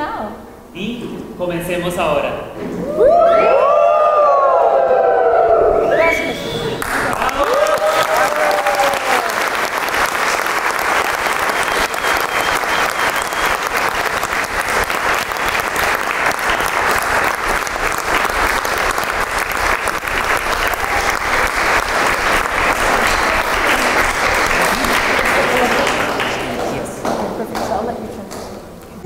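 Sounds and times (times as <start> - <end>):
crowd applauding: 3.0 - 27.9.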